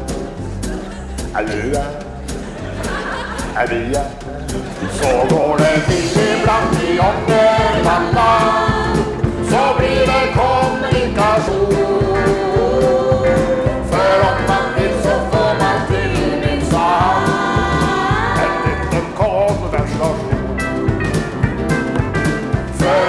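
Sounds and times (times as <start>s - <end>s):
country band playing: 0.0s - 23.0s
voices singing held notes: 0.0s - 23.0s.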